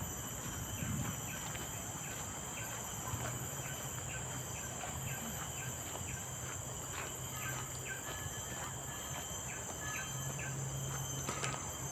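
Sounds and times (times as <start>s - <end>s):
footsteps on dirt trail: 0.0s - 11.9s
forest insects droning: 0.0s - 11.9s.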